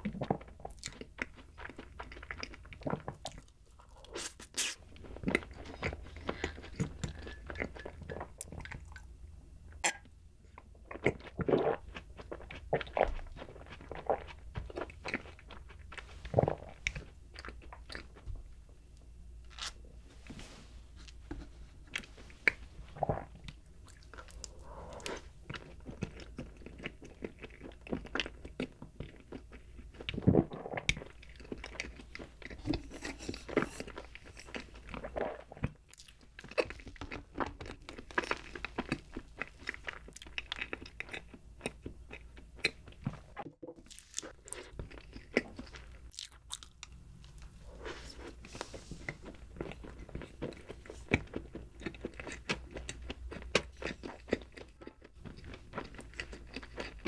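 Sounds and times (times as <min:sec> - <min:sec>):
chewing and mouth sounds: 0:00.0 - 0:09.1, 0:10.5 - 0:18.3, 0:21.0 - 0:57.0.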